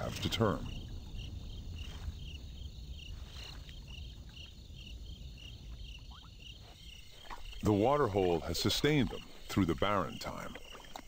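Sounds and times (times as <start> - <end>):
low rumble of ambience: 0.0 - 10.3
insects chirping: 0.0 - 11.0.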